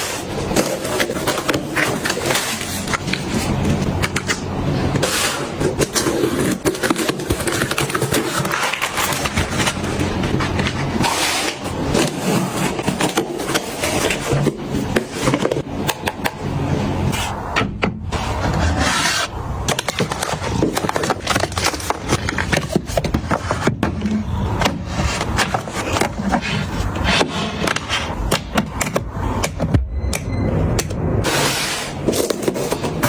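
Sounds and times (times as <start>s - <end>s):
kitchen items clicking and knocking: 0.0s - 16.5s, 19.0s - 31.4s.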